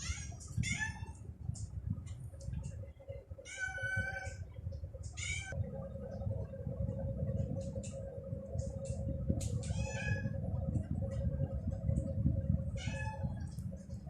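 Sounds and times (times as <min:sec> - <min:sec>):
low rumbling background noise: 0:00.0 - 0:14.0.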